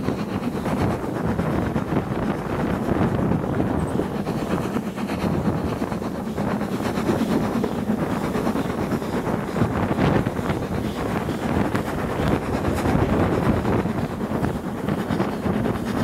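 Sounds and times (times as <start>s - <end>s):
steam train running noise: 0.0s - 16.0s
wind buffeting microphone: 0.0s - 16.0s.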